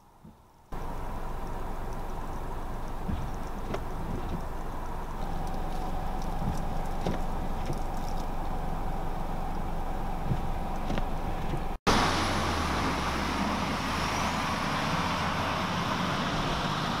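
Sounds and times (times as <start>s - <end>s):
ambient hum: 0.0s - 15.7s
truck engine rumble: 0.0s - 17.0s
tyre and road noise: 0.0s - 17.0s.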